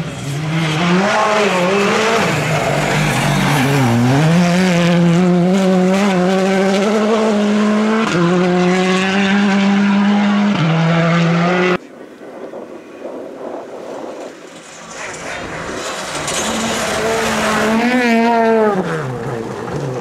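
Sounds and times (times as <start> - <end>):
rally car engine revving: 0.0 - 11.8, 14.3 - 20.0.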